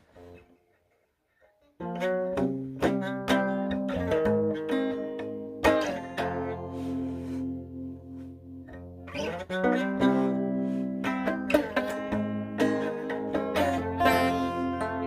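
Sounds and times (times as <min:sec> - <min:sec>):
slow blues guitar: 0:01.7 - 0:15.0.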